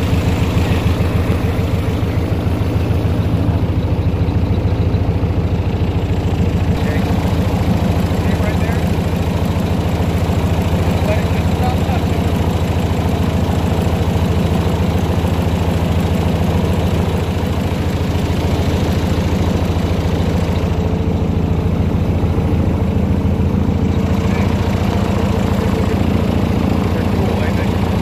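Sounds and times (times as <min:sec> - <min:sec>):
airboat engine idling: 0:00.0 - 0:28.0.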